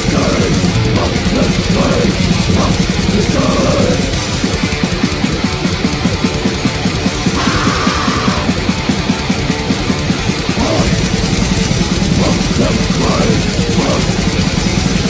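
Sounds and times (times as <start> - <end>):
distorted electric guitar: 0.0 - 15.0
fast drumming: 0.0 - 15.0.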